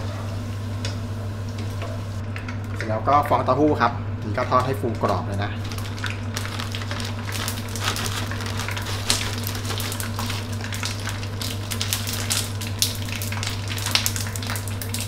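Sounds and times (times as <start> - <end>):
sizzling crackle of frying: 0.0 - 2.8, 5.0 - 15.0.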